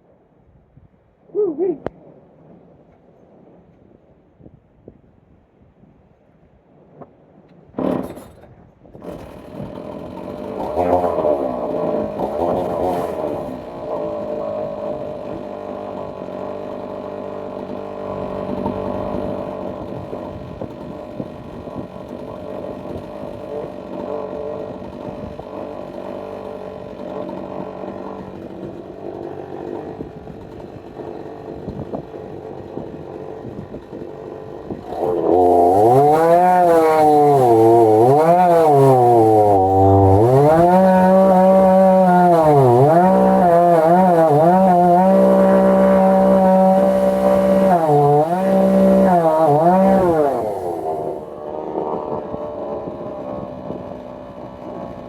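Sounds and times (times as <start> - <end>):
chainsaw mill running: 9.0 - 55.0.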